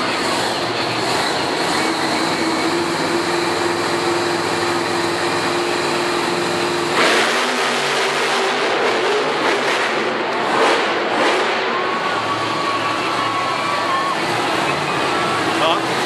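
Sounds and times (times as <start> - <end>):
monster truck engine running: 0.0 - 16.0.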